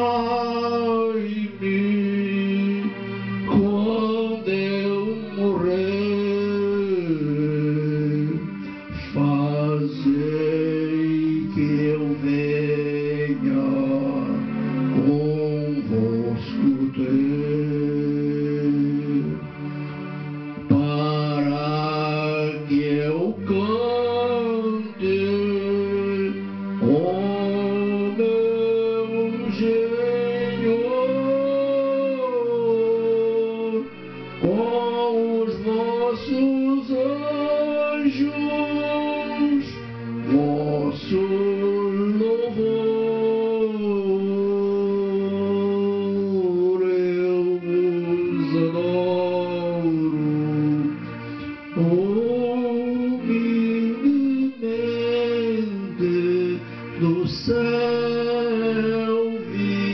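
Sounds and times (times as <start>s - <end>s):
man singing a hymn: 0.0s - 19.7s, 20.6s - 59.9s.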